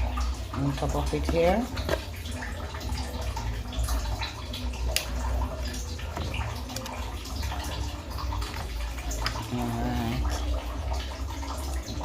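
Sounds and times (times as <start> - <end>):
pan juices dripping: 0.0 - 12.0.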